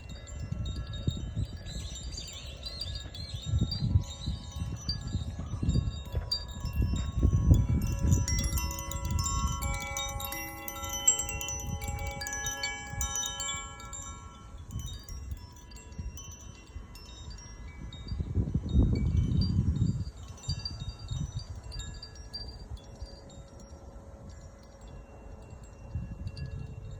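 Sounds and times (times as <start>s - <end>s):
wind chime ringing: 0.0s - 26.9s.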